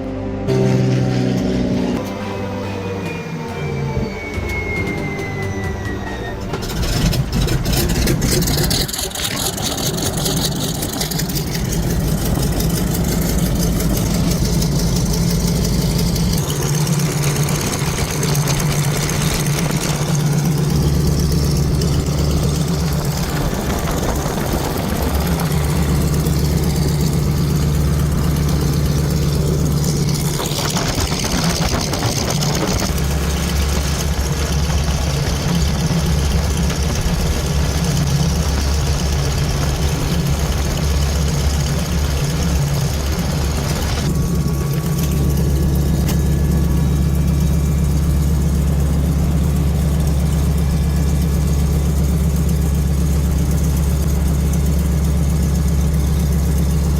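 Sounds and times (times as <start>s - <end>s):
radial aircraft engine running: 0.0s - 56.9s.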